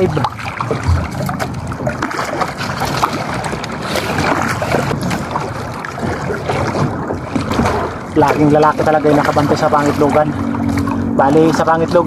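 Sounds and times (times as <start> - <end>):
seawater sloshing and splashing: 0.0 - 12.0.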